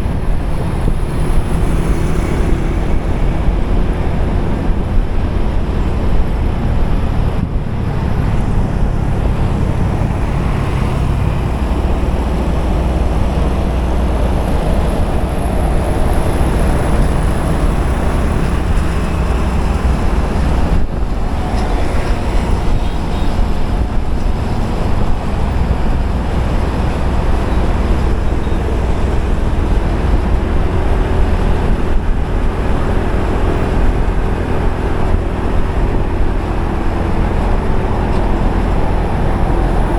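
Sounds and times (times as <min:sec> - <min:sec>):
surrounding traffic noise: 0:00.0 - 0:39.9
wind rumble on microphone: 0:00.0 - 0:39.9.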